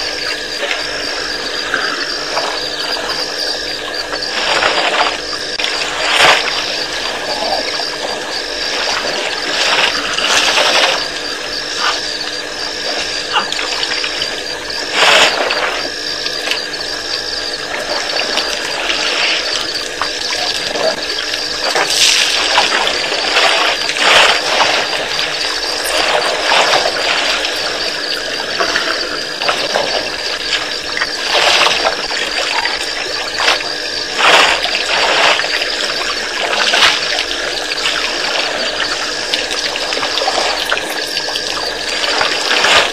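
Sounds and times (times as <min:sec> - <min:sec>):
water splashing and sloshing: 0:00.0 - 0:42.9.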